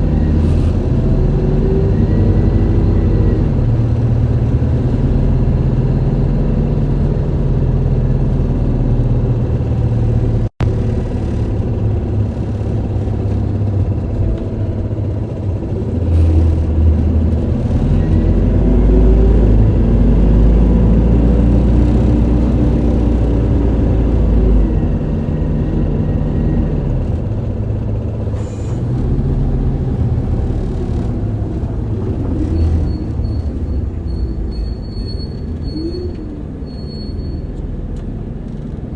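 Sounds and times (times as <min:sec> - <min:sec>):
bus diesel engine rumble: 0:00.0 - 0:38.9.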